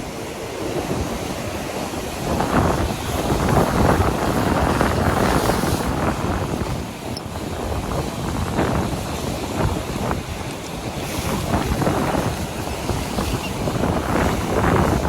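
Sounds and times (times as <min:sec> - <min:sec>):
wind buffeting microphone: 0:00.0 - 0:15.0
sea swell breaking against rocks: 0:00.2 - 0:15.0.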